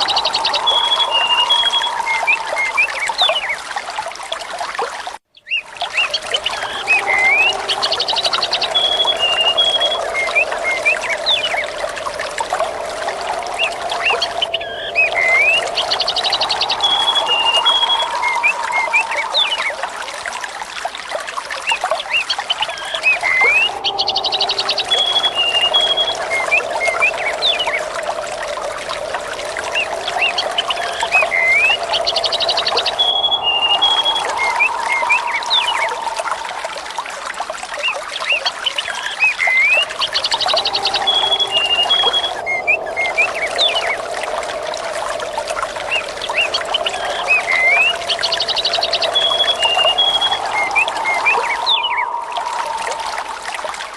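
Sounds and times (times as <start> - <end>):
running water: 0.0 - 53.9
small birds chirping: 5.3 - 19.8, 22.2 - 36.4, 37.8 - 53.3.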